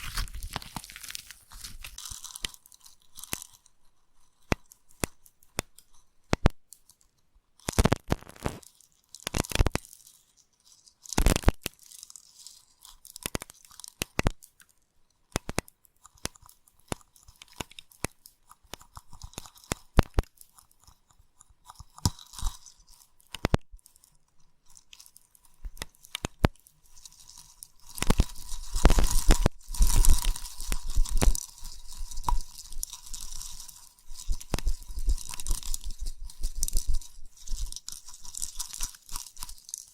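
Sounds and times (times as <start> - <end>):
slime sticky clicks and crackles: 0.0 - 3.6, 4.3 - 39.9.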